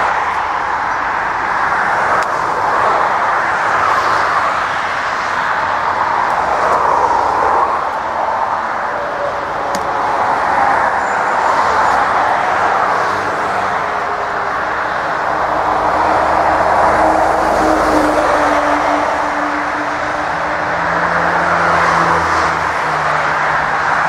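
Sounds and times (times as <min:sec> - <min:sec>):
jet engines roaring at takeoff: 0:00.0 - 0:24.0.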